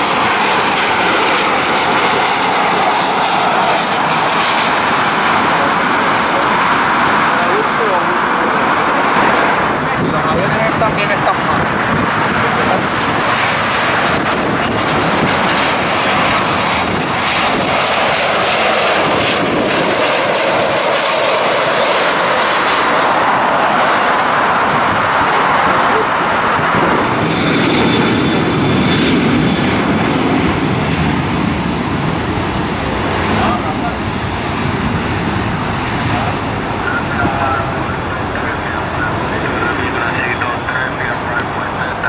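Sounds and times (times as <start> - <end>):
jet engines running: 0.0 - 42.0.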